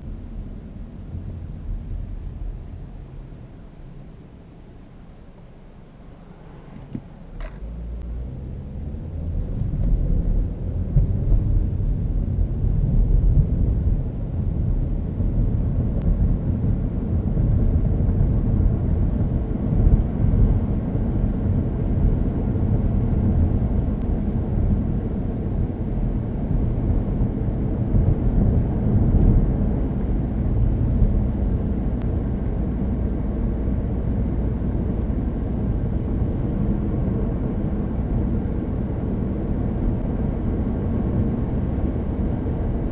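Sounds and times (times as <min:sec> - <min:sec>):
car engine rumble: 0:00.0 - 0:42.9
road noise: 0:00.0 - 0:42.9.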